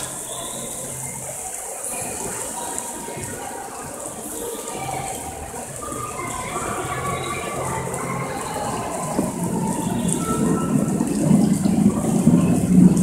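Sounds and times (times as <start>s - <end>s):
fountain jets splashing into water: 0.0s - 13.0s.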